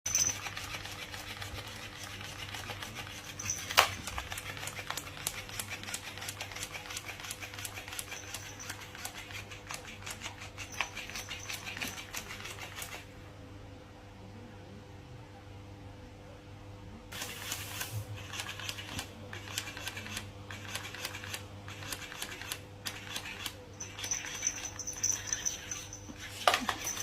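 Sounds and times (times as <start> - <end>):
clicking and scratching: 0.1 - 13.1, 17.2 - 27.0.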